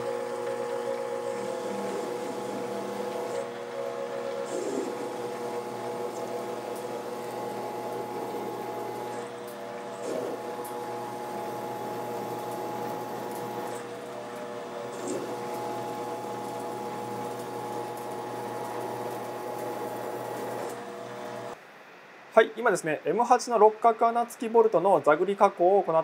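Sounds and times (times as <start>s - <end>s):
lathe machining whine: 0.0s - 21.6s.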